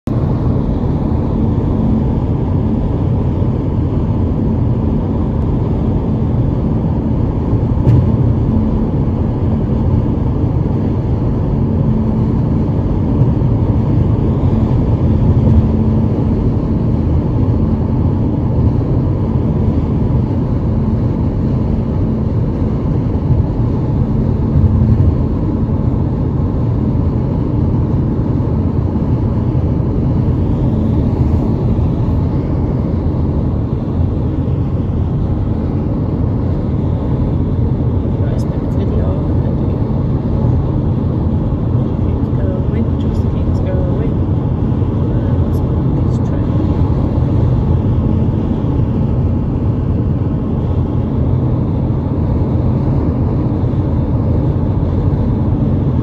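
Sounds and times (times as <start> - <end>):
road and wind rumble inside car: 0.0 - 56.0.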